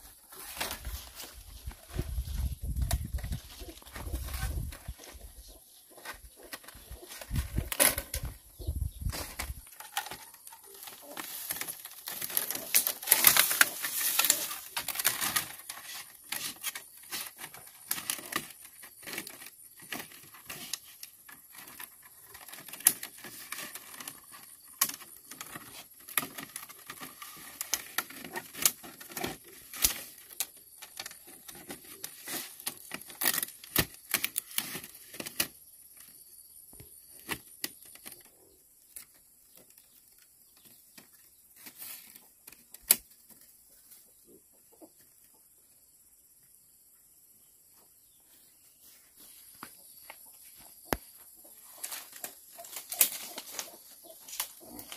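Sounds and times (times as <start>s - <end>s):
bamboo strips rustling and scraping: 0.0s - 45.4s, 48.0s - 54.9s.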